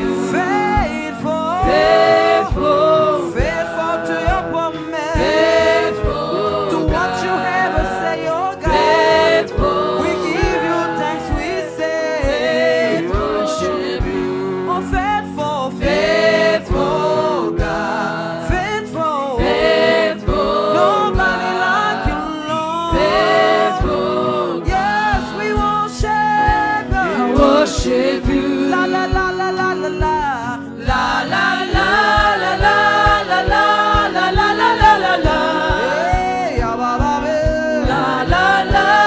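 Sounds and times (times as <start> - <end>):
choir and congregation singing: 0.0 - 39.0
instrumental backing with steady beat: 0.0 - 39.0.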